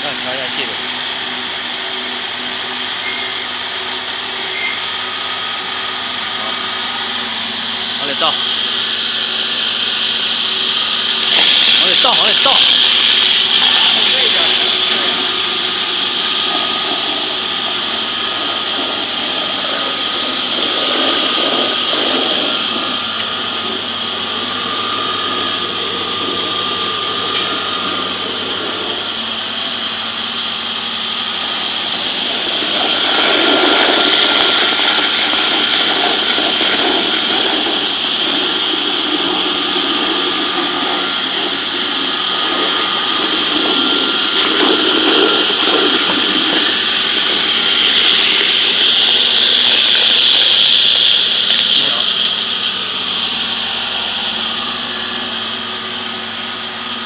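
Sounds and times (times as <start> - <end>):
grinding machine whining: 0.0 - 57.0.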